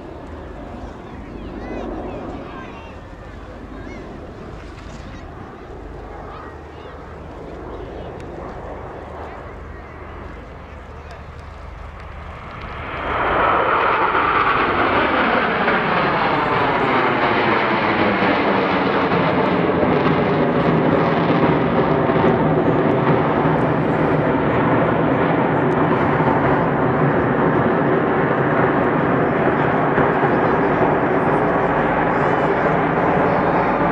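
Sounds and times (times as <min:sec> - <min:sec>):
jets flying low overhead: 0:00.0 - 0:33.9.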